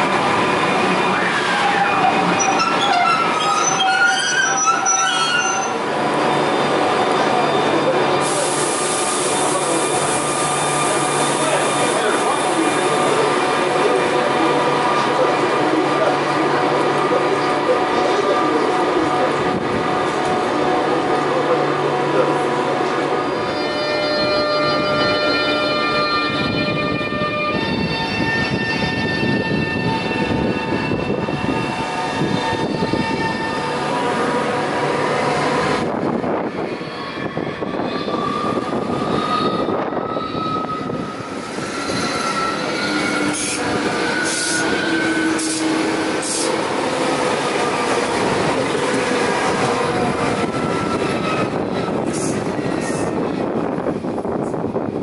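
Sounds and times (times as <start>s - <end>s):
train whining tones: 0.0s - 54.6s
train wheels rumbling on rails: 0.0s - 55.0s.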